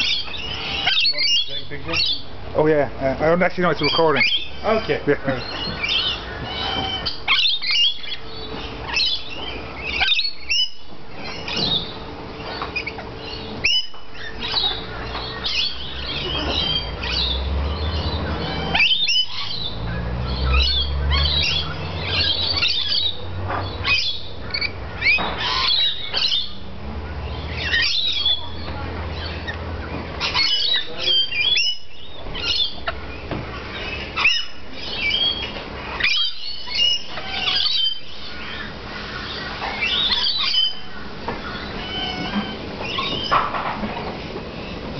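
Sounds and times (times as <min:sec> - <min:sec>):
lorikeets calling: 0:00.0 - 0:44.9.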